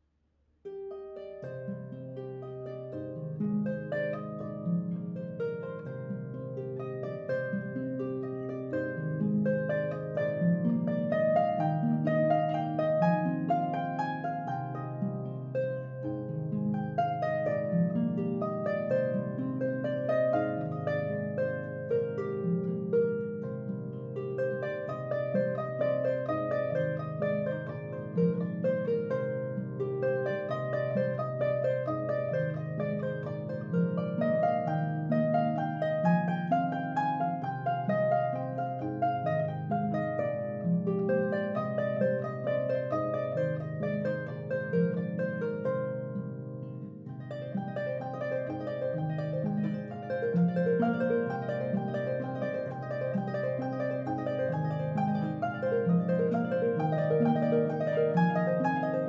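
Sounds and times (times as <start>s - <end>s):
harp music: 0.6s - 59.0s.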